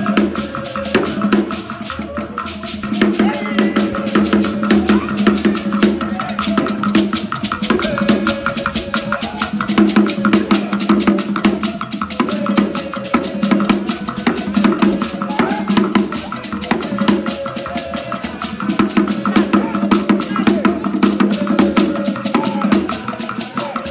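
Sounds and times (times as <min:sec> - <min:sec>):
fast drum percussion: 0:00.0 - 0:23.9.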